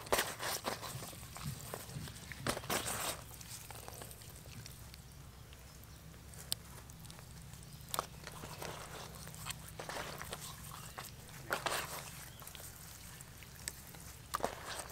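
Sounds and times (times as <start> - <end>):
steady low hum: 0.0 - 14.9
wet squelching of fish flesh: 0.0 - 14.9.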